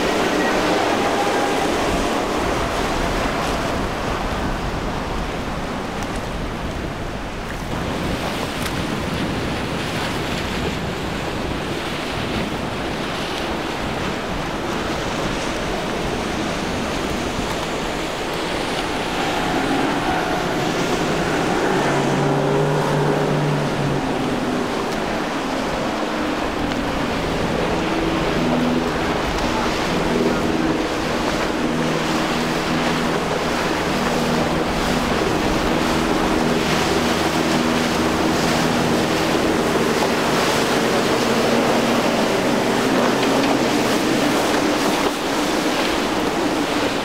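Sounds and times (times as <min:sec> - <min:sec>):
outboard motors humming: 0:00.0 - 0:47.0
rushing churning water: 0:00.0 - 0:47.0
wind buffeting microphone: 0:00.0 - 0:47.0.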